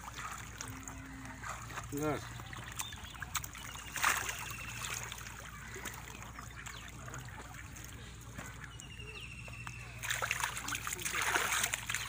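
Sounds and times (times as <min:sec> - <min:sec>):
water splash: 0:00.0 - 0:07.9, 0:10.0 - 0:12.0
water trickling: 0:00.0 - 0:09.0, 0:09.7 - 0:12.0
low steady hum: 0:00.0 - 0:12.0
wet mud squelching: 0:00.0 - 0:12.0.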